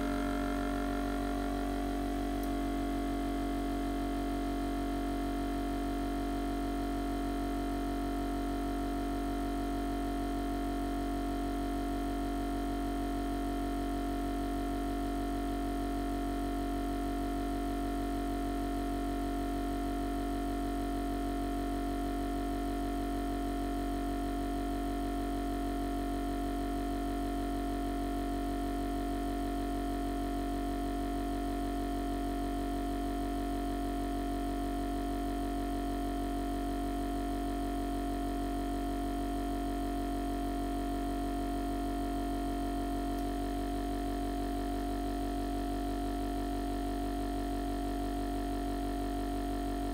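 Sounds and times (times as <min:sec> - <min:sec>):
vacuum sealer pump humming: 0:00.0 - 0:49.9.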